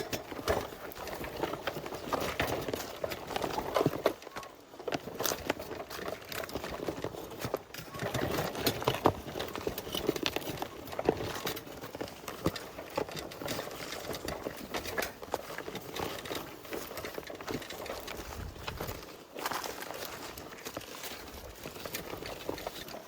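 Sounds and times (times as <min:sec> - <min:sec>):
hard objects clattering: 0:00.0 - 0:23.0.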